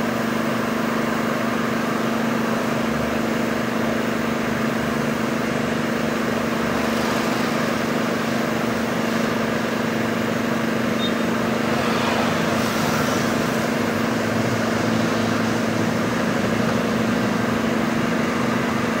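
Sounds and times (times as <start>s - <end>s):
spray gun motor hum: 0.5s - 19.0s.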